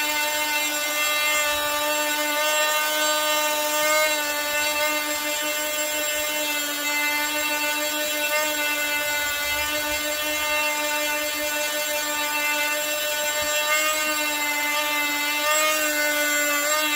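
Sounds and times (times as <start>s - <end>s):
multi-tool whining on wood: 0.0s - 16.9s.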